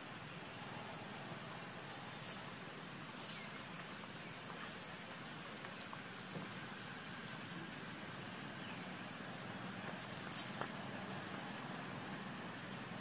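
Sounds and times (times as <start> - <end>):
soft background hiss: 0.0 - 13.0.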